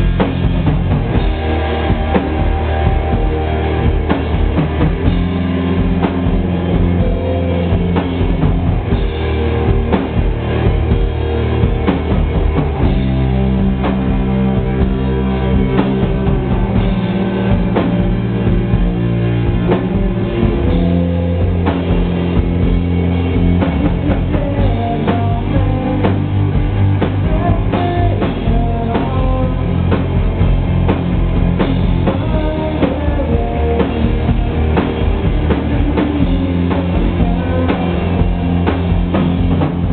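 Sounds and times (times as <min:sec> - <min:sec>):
drum kit beat: 0:00.0 - 0:39.9
electric guitar and bass chords: 0:00.0 - 0:39.9.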